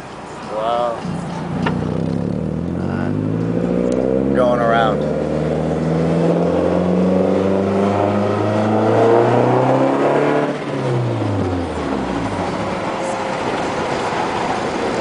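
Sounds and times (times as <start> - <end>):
road noise: 0.0 - 15.0
car engine accelerating: 0.9 - 15.0.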